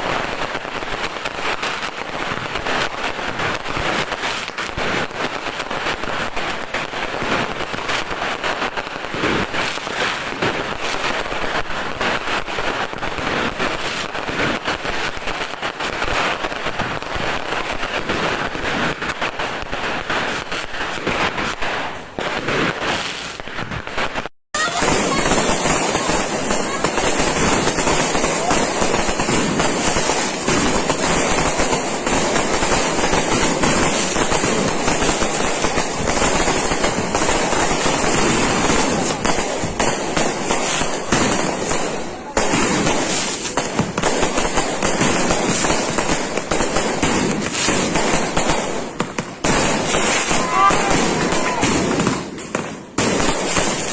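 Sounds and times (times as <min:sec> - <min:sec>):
firecrackers and fireworks banging: 0:00.0 - 0:53.9.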